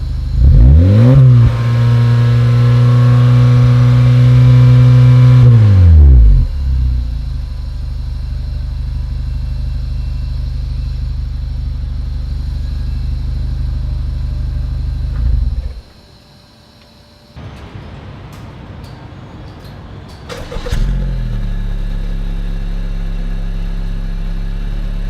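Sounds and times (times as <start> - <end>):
car engine revving and idling: 0.0 - 15.9, 20.5 - 25.0.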